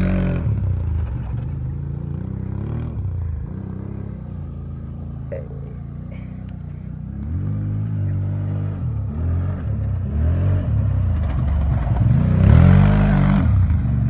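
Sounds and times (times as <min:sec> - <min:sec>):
quad engine revving: 0:00.0 - 0:14.0.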